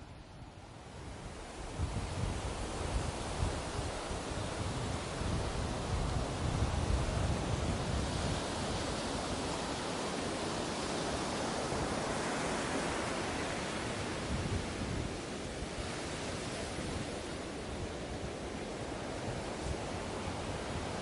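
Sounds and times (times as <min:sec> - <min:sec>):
ocean waves breaking on beach: 0:00.4 - 0:21.0.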